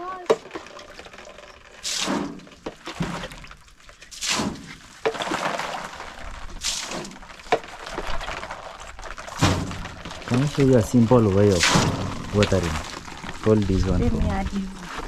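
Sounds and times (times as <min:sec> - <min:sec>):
water splashing on wall: 0:00.0 - 0:15.0.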